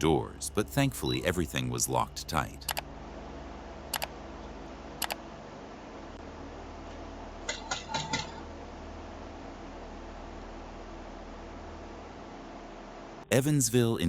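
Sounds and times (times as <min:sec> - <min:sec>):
microphone hiss and hum: 0:00.0 - 0:14.0.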